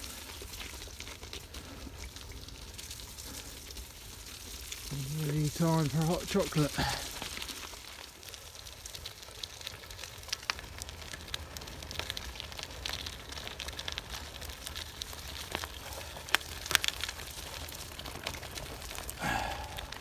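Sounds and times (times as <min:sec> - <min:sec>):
bike tyres crunching on gravel: 0:00.0 - 0:20.0.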